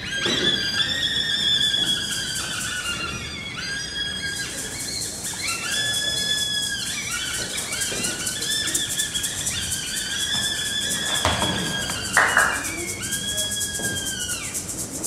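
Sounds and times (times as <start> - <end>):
eerie high whistling tones: 0.0 - 15.0.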